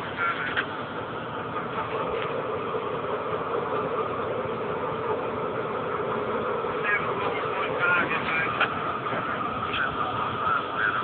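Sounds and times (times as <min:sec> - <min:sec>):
diesel locomotives idling: 0:00.0 - 0:11.0.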